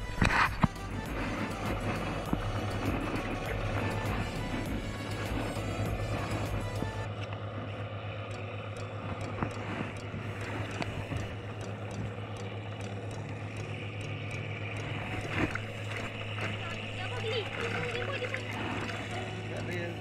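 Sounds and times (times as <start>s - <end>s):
splashing in muddy water: 0.0s - 7.5s, 9.2s - 20.0s
engine ticking: 0.0s - 20.0s
tractor engine running: 0.0s - 20.0s.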